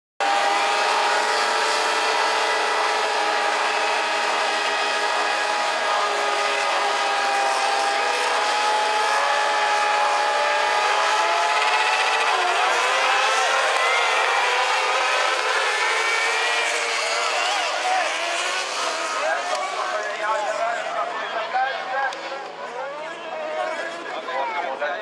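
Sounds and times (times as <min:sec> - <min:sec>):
motorcycle engines revving: 0:00.2 - 0:21.1.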